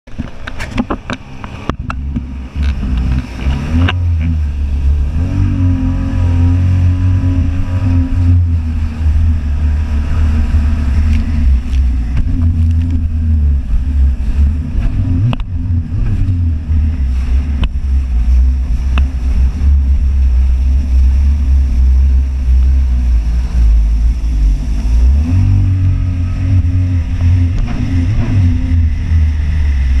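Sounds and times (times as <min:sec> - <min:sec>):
jet ski engine droning: 0:00.1 - 0:30.0
rushing water: 0:00.1 - 0:30.0.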